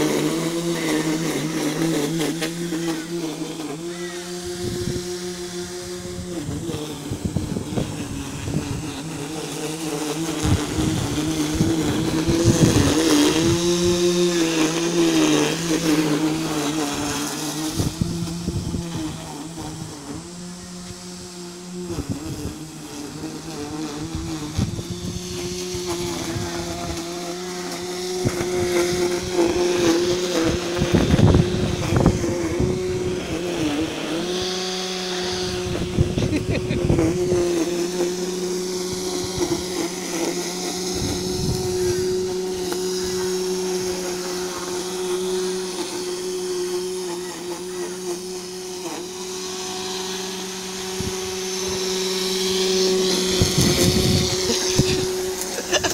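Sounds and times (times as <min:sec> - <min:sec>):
lawnmower motor whining: 0:00.0 - 0:55.9
rough clatter of mower in grass: 0:00.0 - 0:55.9.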